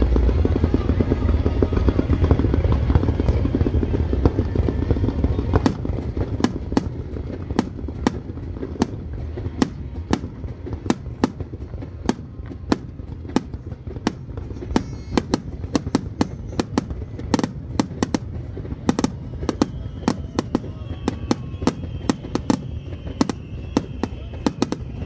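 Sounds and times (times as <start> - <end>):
low rumble: 0.0 - 21.6
fireworks bangs: 0.0 - 25.0.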